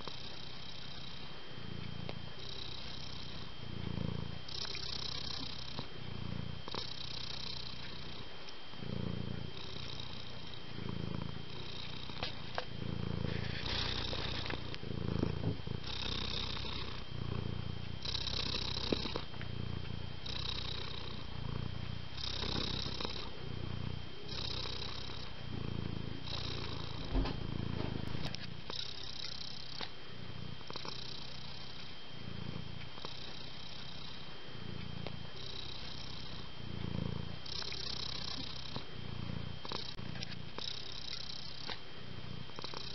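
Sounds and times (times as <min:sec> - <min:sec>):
cat purring: 0:00.0 - 0:42.9.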